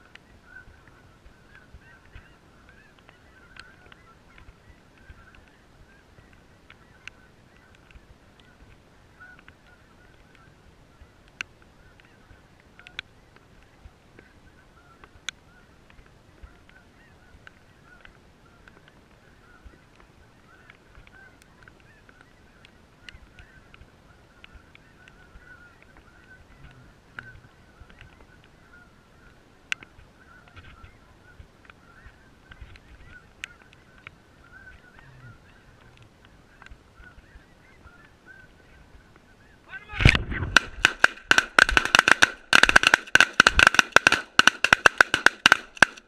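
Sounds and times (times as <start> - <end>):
geese honking: 0.0 - 46.0.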